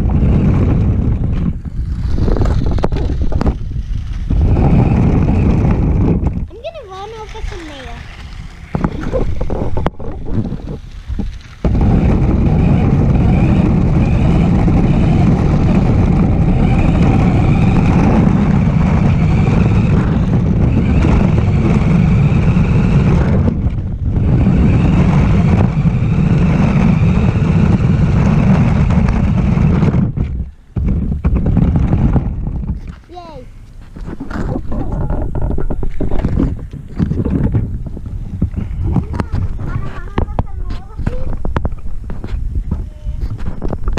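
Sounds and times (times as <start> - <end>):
radio-controlled car rumbling: 0.0 - 32.8, 34.1 - 43.9.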